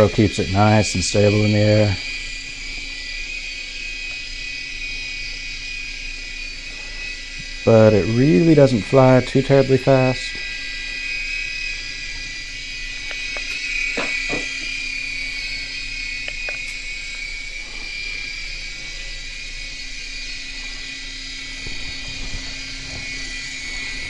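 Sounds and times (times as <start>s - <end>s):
toy helicopter rotors whining: 0.0s - 24.0s.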